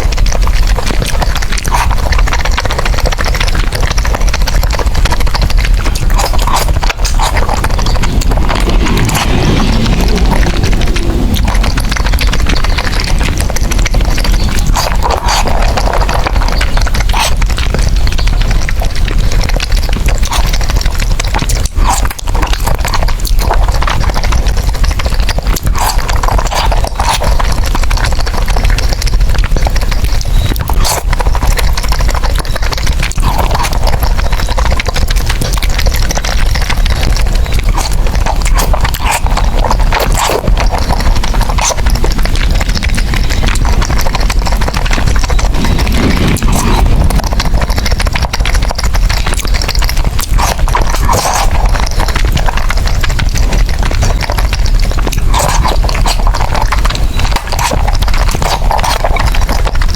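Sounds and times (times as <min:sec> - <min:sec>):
mouth clicks: 0:00.0 - 0:59.9
noodle slurping: 0:00.0 - 0:59.9
wet chewing and lip smacking: 0:00.0 - 0:59.9.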